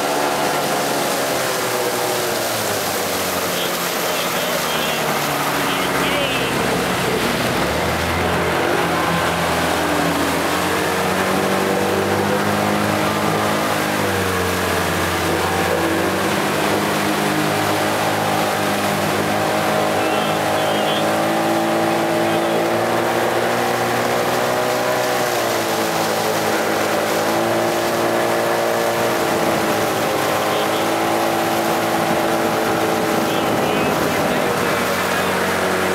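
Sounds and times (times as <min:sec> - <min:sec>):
outboard motor running: 0:00.0 - 0:35.9
rushing water: 0:00.0 - 0:35.9
wind: 0:00.0 - 0:35.9.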